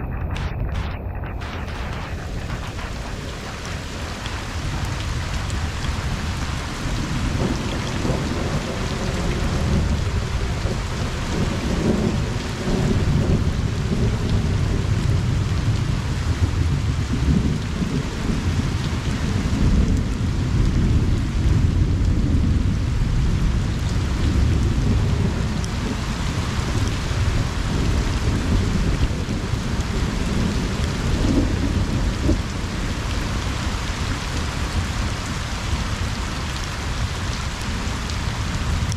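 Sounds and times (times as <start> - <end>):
distant thunder rumble: 0.0 - 38.9
rain pattering: 0.0 - 38.9.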